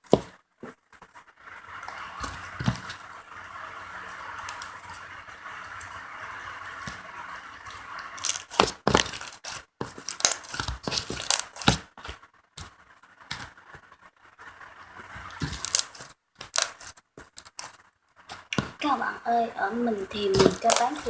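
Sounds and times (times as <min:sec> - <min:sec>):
crackling and tearing material: 0:00.0 - 0:18.6, 0:20.2 - 0:21.0
steady hiss: 0:00.0 - 0:21.0.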